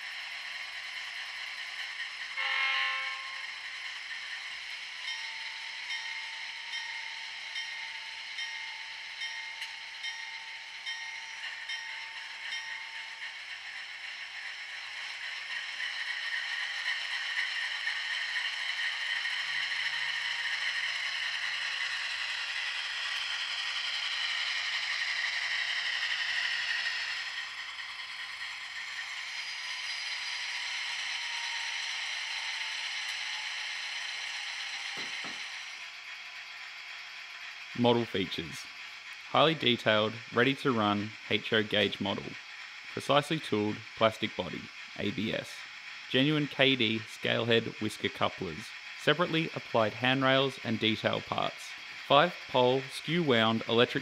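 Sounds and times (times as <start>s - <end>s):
model diesel locomotive sound: 0.0s - 54.0s.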